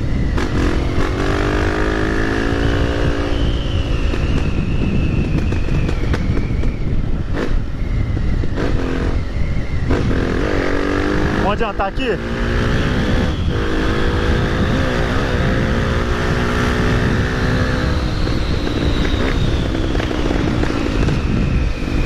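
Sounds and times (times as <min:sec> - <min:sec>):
low rush of wind: 0:00.0 - 0:22.0
motorcycle engine accelerating: 0:00.0 - 0:22.0.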